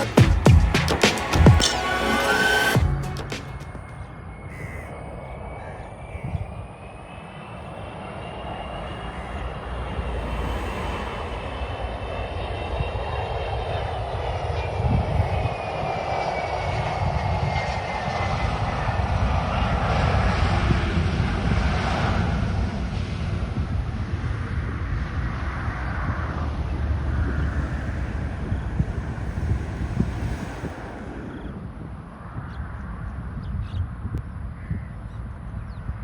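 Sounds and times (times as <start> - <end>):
jet engine whine: 1.0 - 33.7
jet engine rumble: 3.4 - 34.1.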